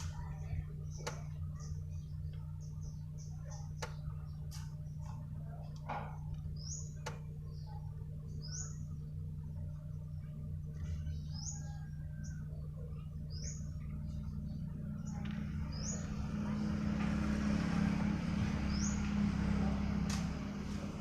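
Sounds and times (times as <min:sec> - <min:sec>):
small bird chirping: 0:00.0 - 0:20.4
steady low hum: 0:00.0 - 0:21.0.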